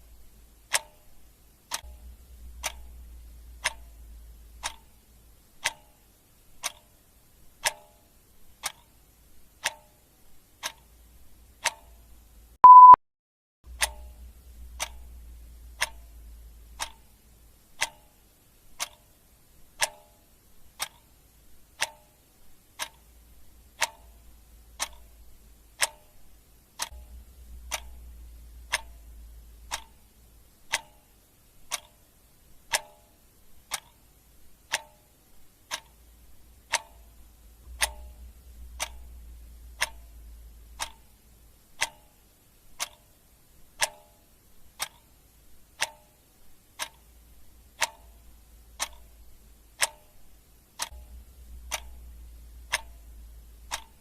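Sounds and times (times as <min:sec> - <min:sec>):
faint low rumble: 0:00.0 - 0:09.6, 0:13.7 - 0:19.7, 0:20.5 - 0:43.8, 0:46.4 - 0:54.0
clock ticking: 0:00.0 - 0:13.0, 0:13.7 - 0:54.0.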